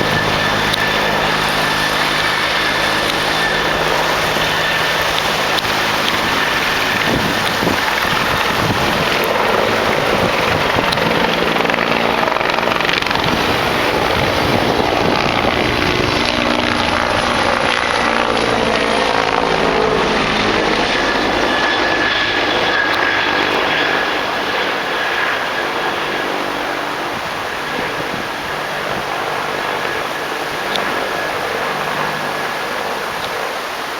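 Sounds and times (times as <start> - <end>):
helicopter rotor and engines: 0.0 - 33.9.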